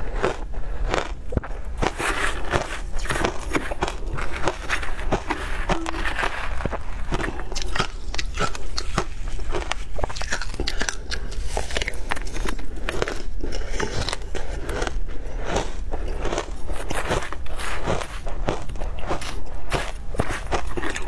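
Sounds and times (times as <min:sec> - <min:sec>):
crushed ice being chewed: 0:00.0 - 0:21.0.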